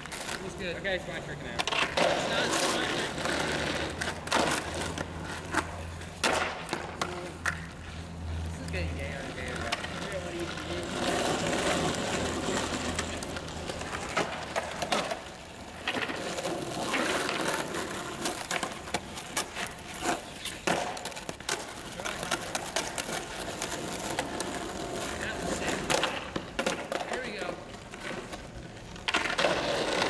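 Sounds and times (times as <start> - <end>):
skateboard clacking on ground: 0.0 - 8.0, 8.6 - 30.0
skateboard wheels rolling on asphalt: 0.0 - 30.0.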